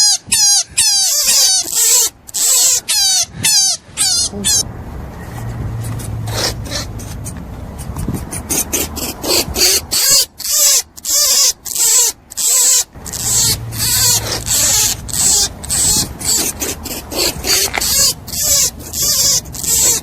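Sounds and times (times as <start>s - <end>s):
rabbit making hissy bursts: 0.0s - 4.6s, 6.3s - 20.0s.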